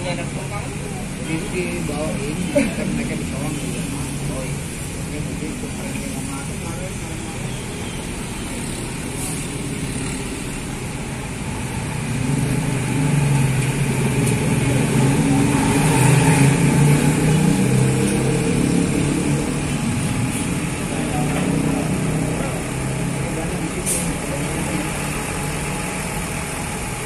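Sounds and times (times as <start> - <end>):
bus diesel engine passing: 0.0 - 27.0.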